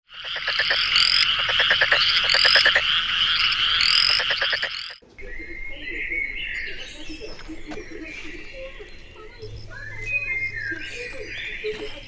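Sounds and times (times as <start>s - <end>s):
frogs calling: 0.0s - 12.0s.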